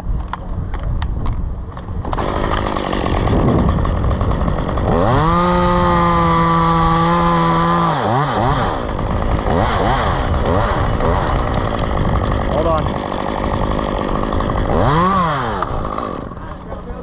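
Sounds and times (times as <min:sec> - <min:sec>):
chainsaw revving: 0:02.0 - 0:17.0.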